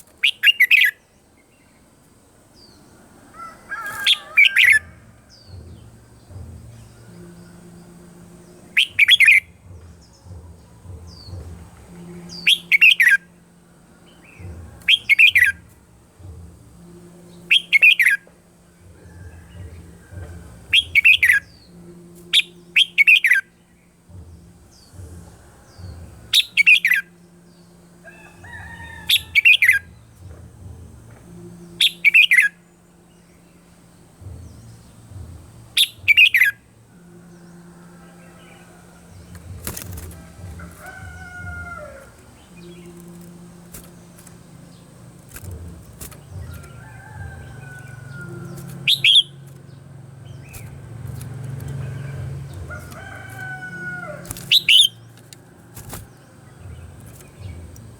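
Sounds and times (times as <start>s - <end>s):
bulbul singing bright phrases: 0.0s - 3.0s, 3.8s - 57.9s
faint low hum: 0.0s - 57.9s.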